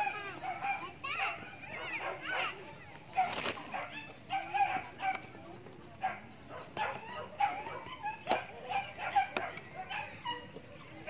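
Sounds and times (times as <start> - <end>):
dog barking: 0.0 - 5.3, 6.0 - 10.5.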